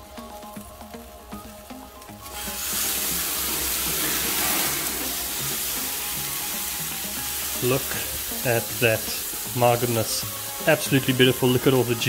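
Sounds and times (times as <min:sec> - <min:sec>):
background music: 0:00.0 - 0:12.0
chicken sizzling on grill: 0:00.0 - 0:12.0.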